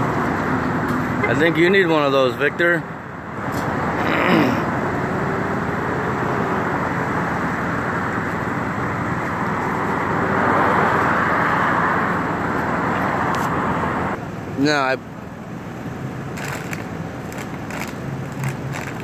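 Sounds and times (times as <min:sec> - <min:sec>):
truck engine rumbling: 0:00.0 - 0:11.1, 0:12.1 - 0:19.0.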